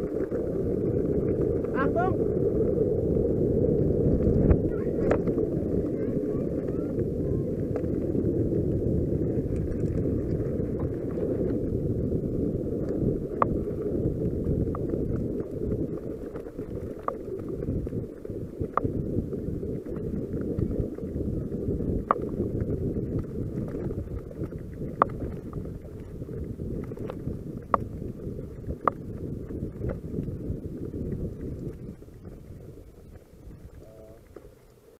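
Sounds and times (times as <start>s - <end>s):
bike tyres rumbling on gravel: 0.0s - 34.9s
wind buffeting microphone: 0.0s - 34.9s.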